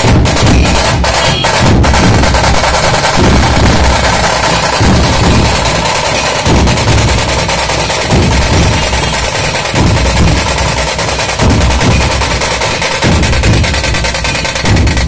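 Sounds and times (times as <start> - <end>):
big barrel drums beating: 0.0 - 15.0
snare drums fast stick roll: 0.0 - 15.0.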